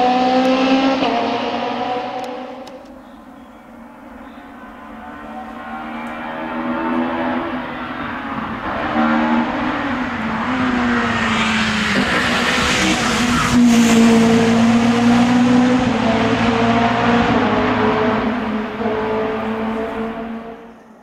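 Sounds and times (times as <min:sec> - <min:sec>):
rally car engine revving: 0:00.0 - 0:03.1, 0:03.7 - 0:20.8.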